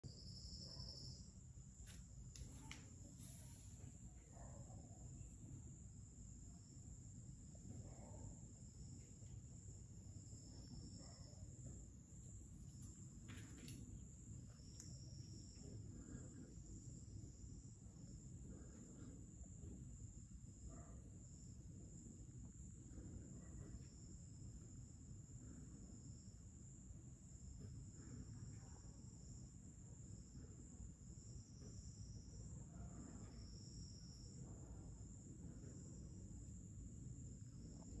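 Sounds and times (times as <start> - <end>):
lower pulsing insect trill: 0.0 - 38.0.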